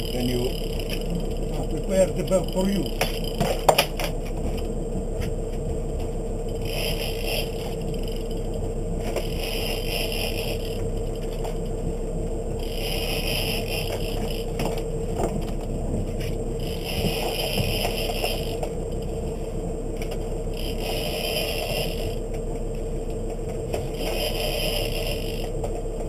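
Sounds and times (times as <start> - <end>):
fishing reel whirring: 0.0 - 4.2, 6.3 - 15.6, 16.2 - 22.3, 23.7 - 25.8
boat hum and rumble: 0.0 - 26.0.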